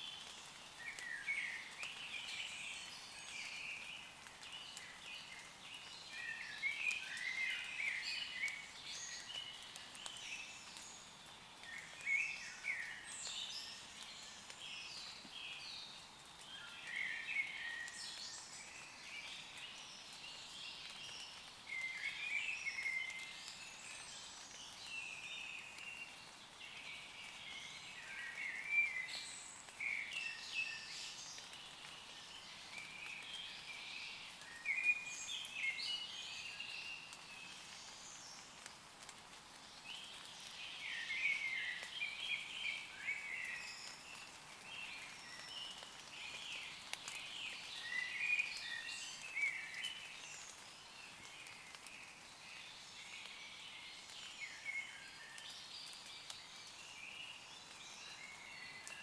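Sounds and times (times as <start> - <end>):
light rain on leaves: 0.0 - 59.0.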